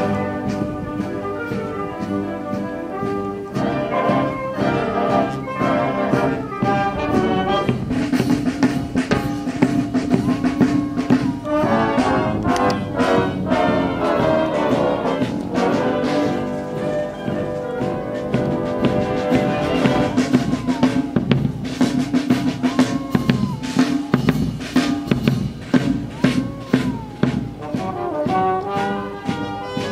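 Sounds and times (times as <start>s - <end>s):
brass band playing: 0.0s - 29.9s.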